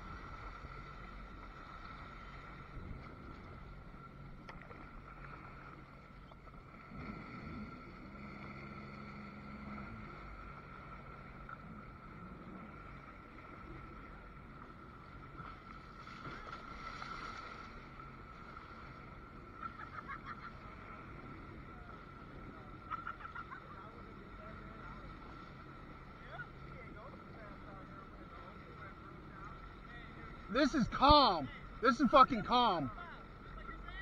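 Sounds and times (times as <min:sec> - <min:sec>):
jet ski engine hum: 0:00.0 - 0:34.0.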